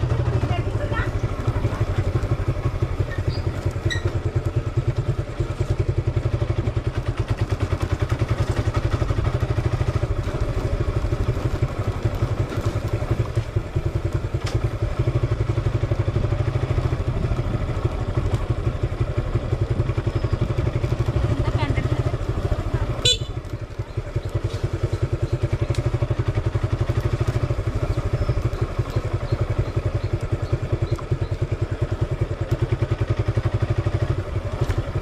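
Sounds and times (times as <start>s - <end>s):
motorcycle engine low revs: 0.0s - 35.0s.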